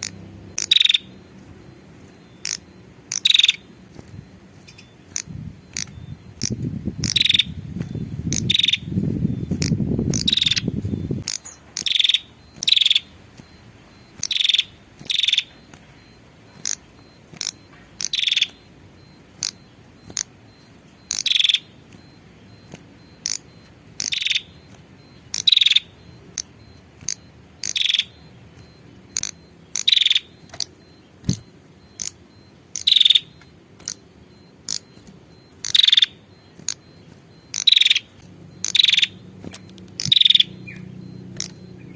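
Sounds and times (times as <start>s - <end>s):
bird sharp chip calls: 0.0s - 41.9s.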